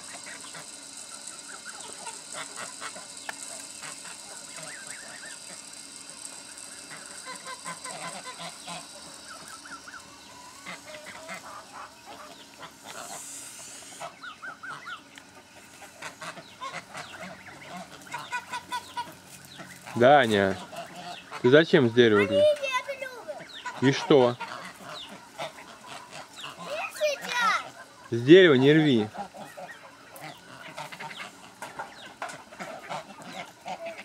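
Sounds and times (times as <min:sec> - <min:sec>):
poultry calling: 0:00.0 - 0:34.0
steady high hiss: 0:00.0 - 0:34.0.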